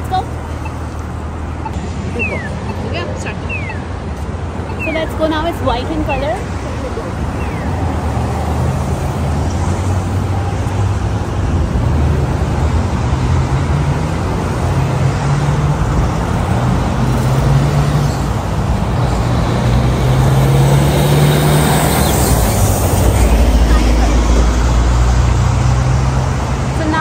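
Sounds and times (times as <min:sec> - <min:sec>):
cars and trucks passing: 0:00.0 - 0:27.0.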